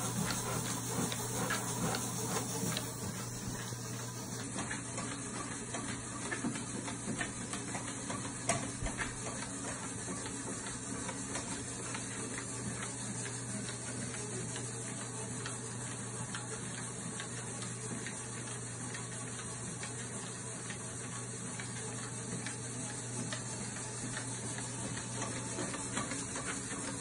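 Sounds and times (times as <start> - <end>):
treadmill motor hum and belt hiss: 0.0 - 27.0.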